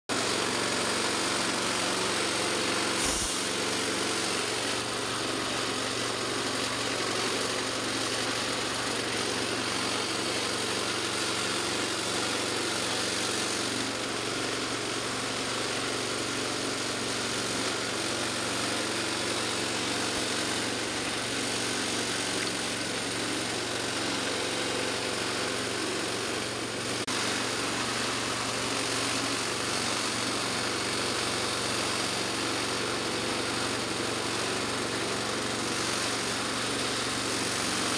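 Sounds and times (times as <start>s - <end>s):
grinding mill running: 0.1s - 37.9s.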